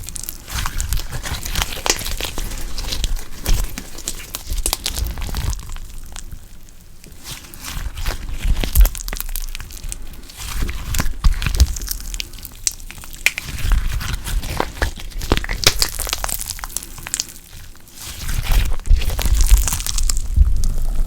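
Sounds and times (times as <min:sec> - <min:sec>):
slime squished by hand: 0:00.0 - 0:21.0.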